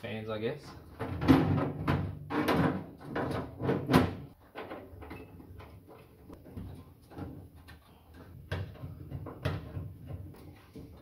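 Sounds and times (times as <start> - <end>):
knocks and rustles: 0.6 - 11.0.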